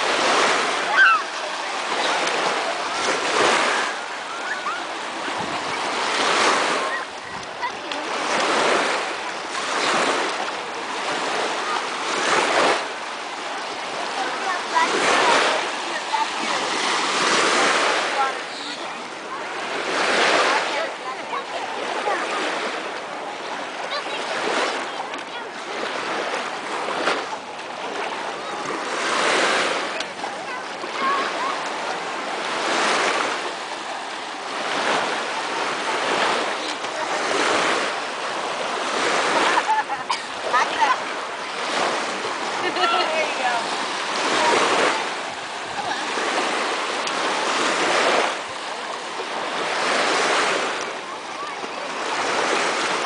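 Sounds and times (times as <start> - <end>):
lake waves breaking: 0.0 - 53.0.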